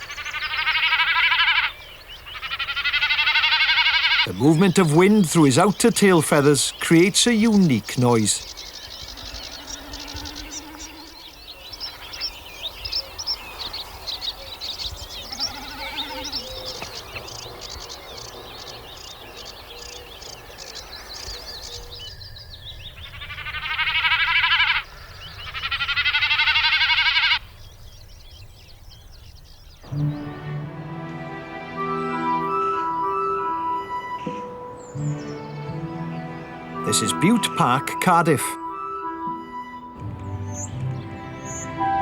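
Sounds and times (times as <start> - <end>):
small birds chirping: 0.0 - 30.5, 32.4 - 42.0.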